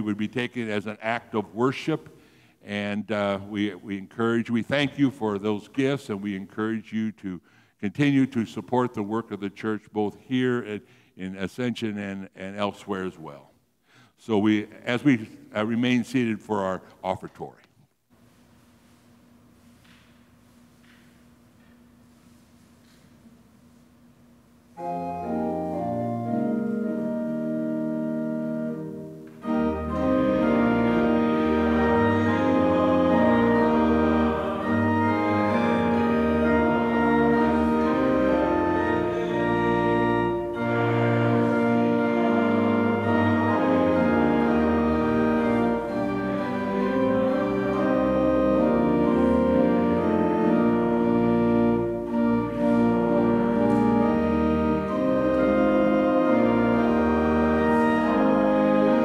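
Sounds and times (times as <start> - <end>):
church organ chords: 0.0 - 17.4, 18.6 - 59.0.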